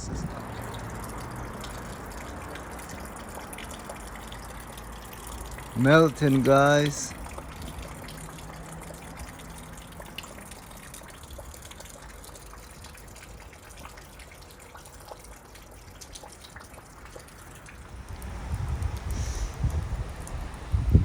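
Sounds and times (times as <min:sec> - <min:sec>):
water dripping: 0:00.0 - 0:21.0
water trickling: 0:00.0 - 0:21.0.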